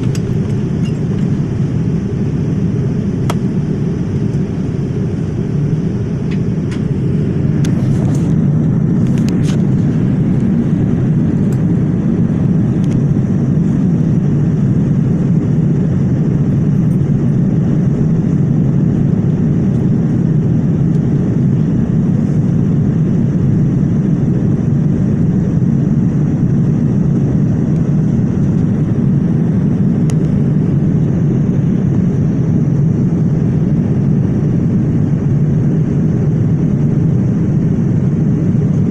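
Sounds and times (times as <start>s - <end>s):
jet low rumble: 0.0s - 38.9s.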